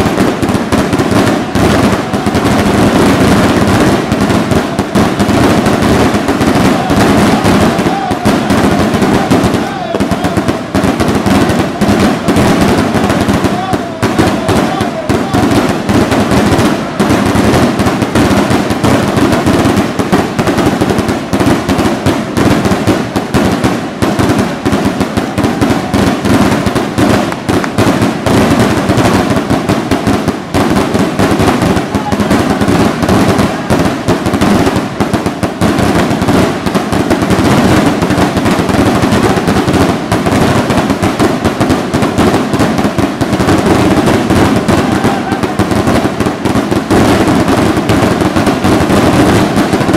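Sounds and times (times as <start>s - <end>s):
fireworks rockets bursting: 0.0s - 49.9s.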